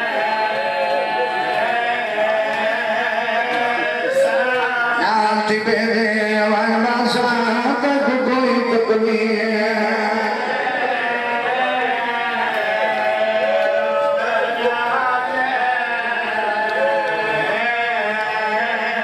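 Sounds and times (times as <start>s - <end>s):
men chanting a lament: 0.0s - 19.0s.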